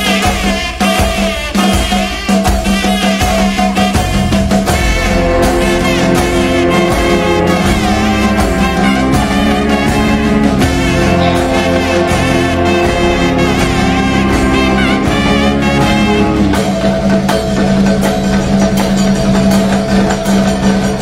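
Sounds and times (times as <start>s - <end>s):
steady drumbeat: 0.0s - 21.0s
sustained pitched instruments: 0.0s - 21.0s
wavering lead melody: 3.9s - 21.0s.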